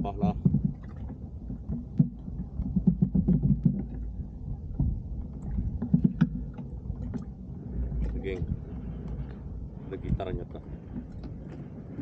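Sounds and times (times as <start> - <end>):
knocks and clicks from boat: 0.0 - 12.0
water sloshing against hull: 0.0 - 12.0.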